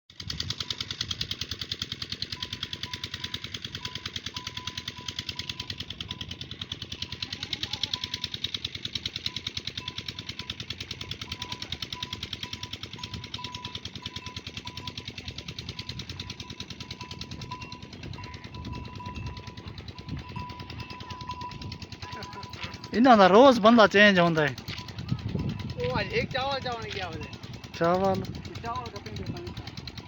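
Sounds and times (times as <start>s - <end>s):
engine running with rapid thumps: 0.1s - 30.0s.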